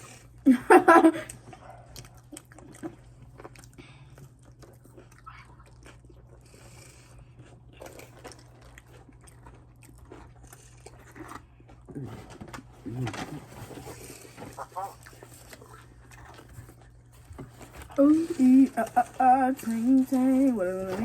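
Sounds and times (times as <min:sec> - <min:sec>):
person chewing sandwich: 0:00.0 - 0:21.0.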